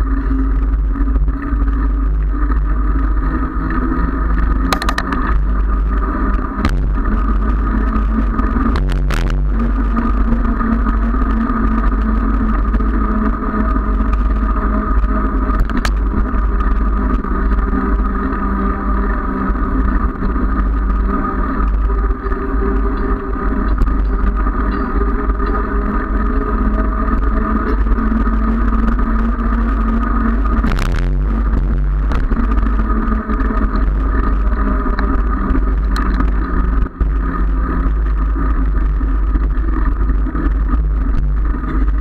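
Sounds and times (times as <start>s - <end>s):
constant hum: 0.0s - 42.0s
wind buffeting microphone: 0.0s - 42.0s.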